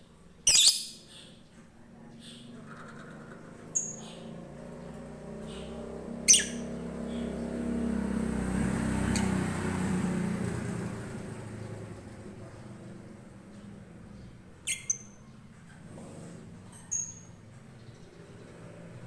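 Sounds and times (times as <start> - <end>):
bird chirping: 0.0 - 12.8, 13.4 - 15.8, 16.7 - 19.0
vehicle engine hum passing: 1.1 - 19.0.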